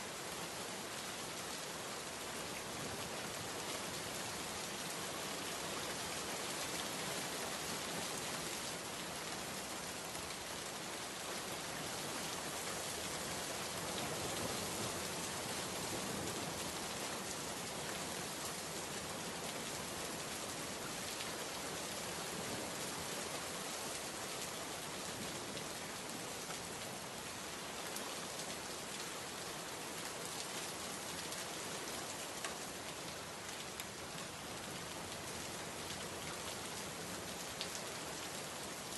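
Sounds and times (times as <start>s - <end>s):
rain falling on a window: 0.0s - 38.9s.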